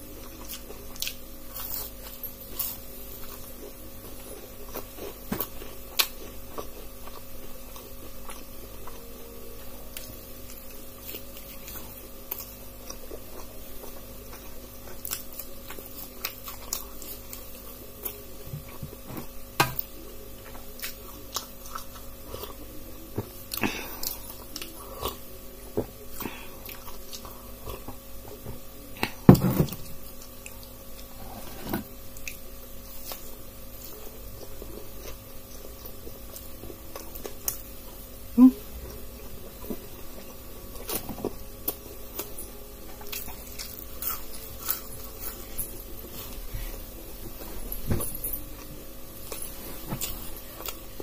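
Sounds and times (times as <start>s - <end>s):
faint steady hum: 0.0s - 51.0s
person chewing crunchy food: 0.0s - 51.0s.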